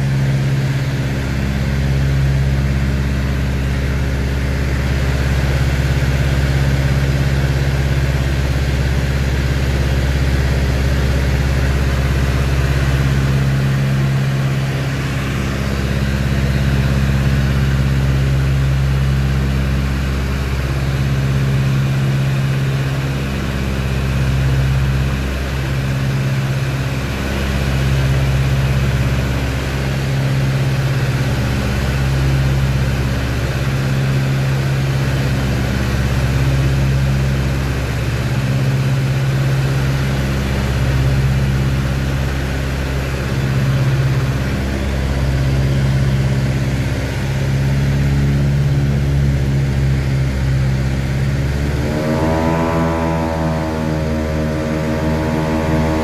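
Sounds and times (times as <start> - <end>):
aircraft engines droning: 0.0 - 56.0.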